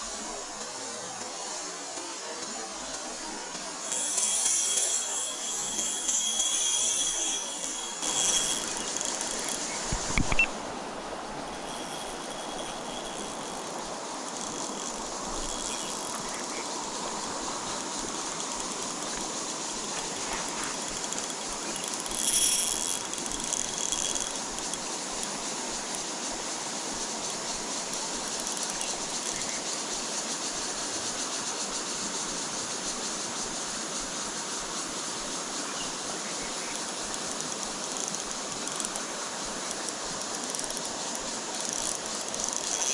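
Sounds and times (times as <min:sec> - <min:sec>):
stream flowing: 0:00.0 - 0:42.9.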